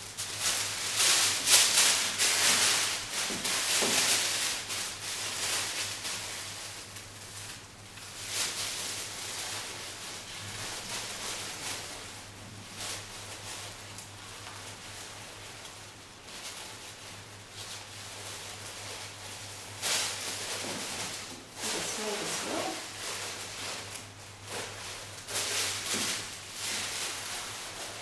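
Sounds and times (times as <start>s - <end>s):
tissue paper rustling: 0.0s - 28.0s.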